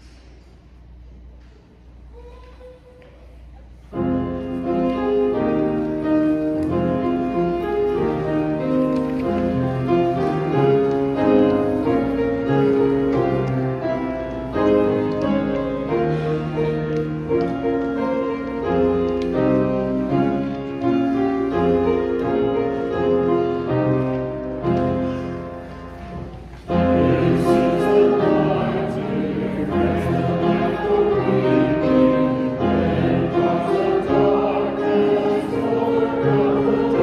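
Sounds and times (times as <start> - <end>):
upright piano playing hymn chords: 3.9 - 37.0.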